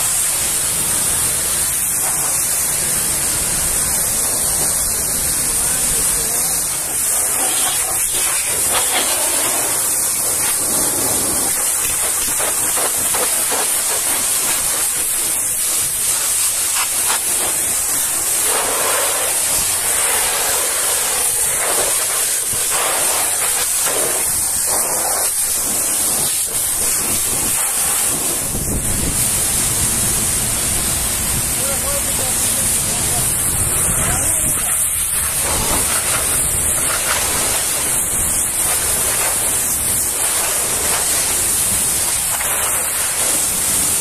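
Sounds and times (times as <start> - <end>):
pressure washer jet hissing: 0.0 - 44.0
water splattering on rims: 0.0 - 44.0.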